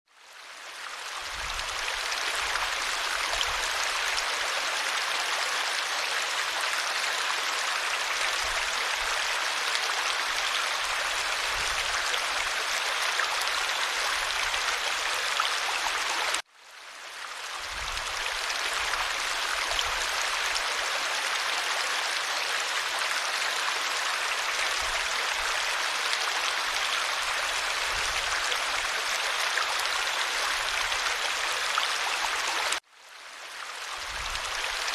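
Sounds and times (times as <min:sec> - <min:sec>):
stream rushing: 0:00.9 - 0:16.4, 0:17.4 - 0:32.8.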